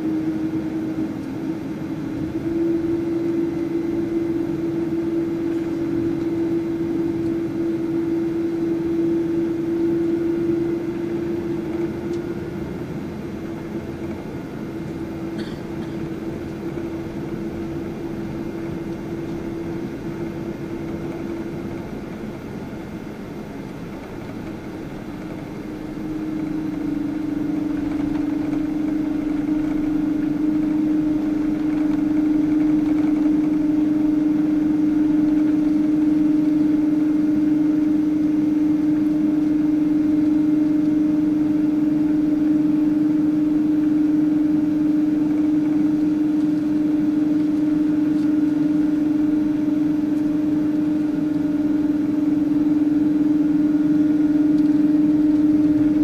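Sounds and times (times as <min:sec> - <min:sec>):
jet engines humming in cabin: 0:00.0 - 0:56.0
low engine tone: 0:00.0 - 0:56.0.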